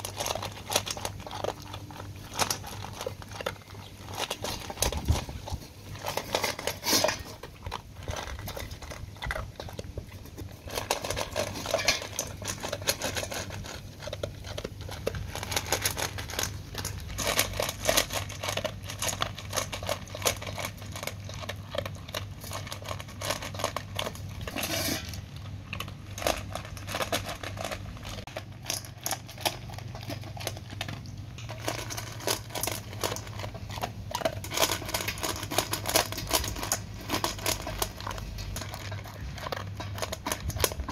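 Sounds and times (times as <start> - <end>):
dog crunching kibble: 0.0 - 40.9
kibble rattling against metal bowl: 0.0 - 40.9.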